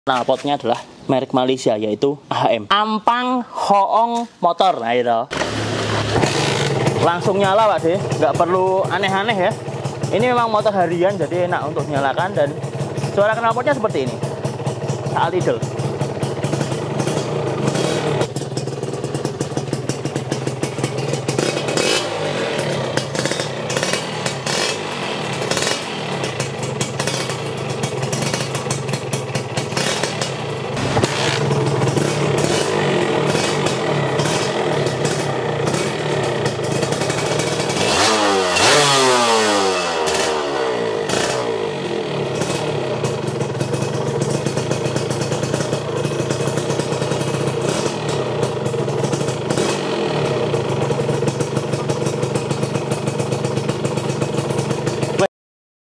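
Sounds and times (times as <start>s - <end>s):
motorcycle engine idling and revving: 2.8s - 55.3s.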